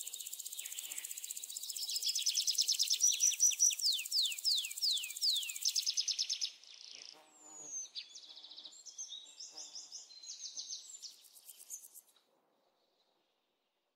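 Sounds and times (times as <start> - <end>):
birds trilling and chirping: 0.0 - 12.1.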